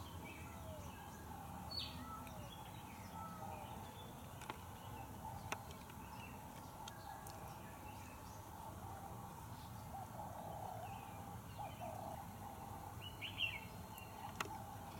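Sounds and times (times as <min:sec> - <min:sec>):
low steady background hum: 0:00.0 - 0:14.9
small birds chirping: 0:00.0 - 0:14.9.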